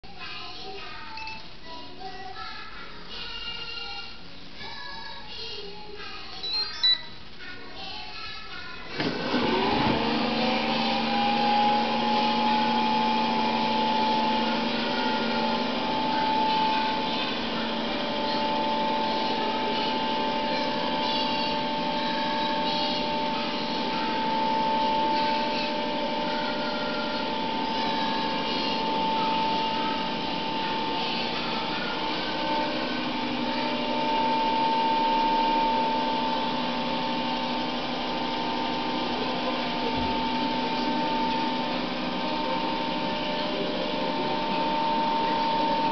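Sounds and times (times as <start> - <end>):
robot vacuum cleaner whining: 8.9 - 45.9.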